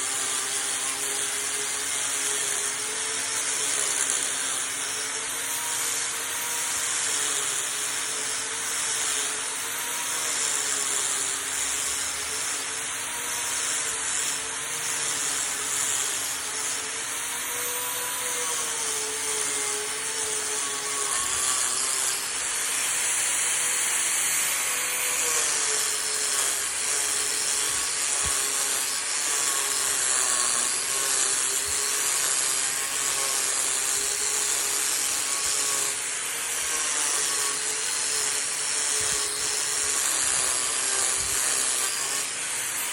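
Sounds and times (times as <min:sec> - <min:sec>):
power tool cutting wood: 0:00.0 - 0:42.9.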